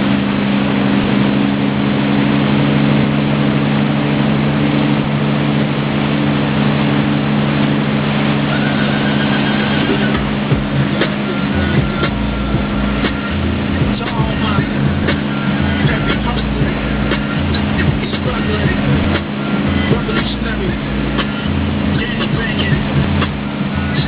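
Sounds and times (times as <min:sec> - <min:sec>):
boat engine running under load: 0:00.0 - 0:24.0.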